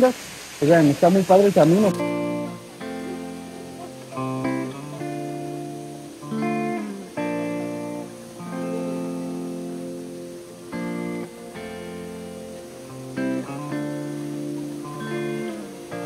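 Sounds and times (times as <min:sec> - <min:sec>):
slow guitar chords: 0:01.8 - 0:16.0.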